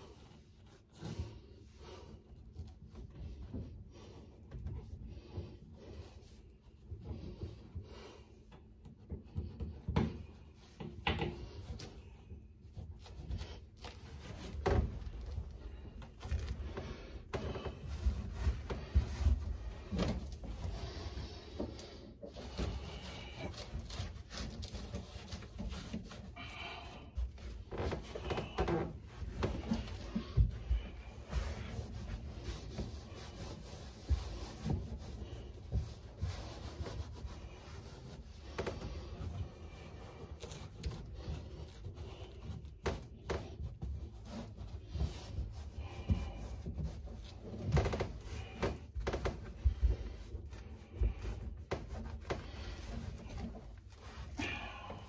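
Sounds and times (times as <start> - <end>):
carpet rubbing and scraping: 0.0 - 55.0.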